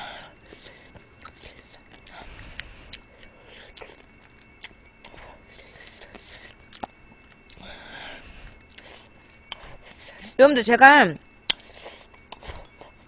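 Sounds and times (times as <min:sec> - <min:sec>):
wet chewing and sucking: 0:00.5 - 0:10.3, 0:11.5 - 0:13.0.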